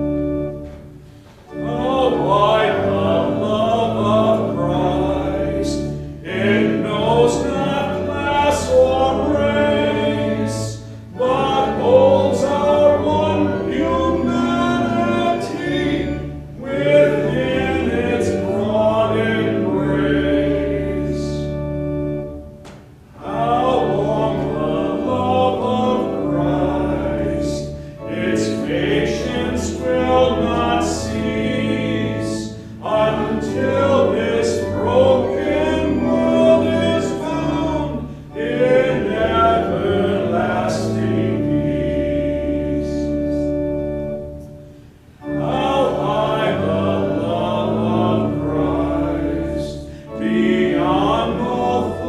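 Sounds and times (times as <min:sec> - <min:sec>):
congregation singing a hymn: 0:00.0 - 0:52.0
organ accompaniment: 0:00.0 - 0:52.0.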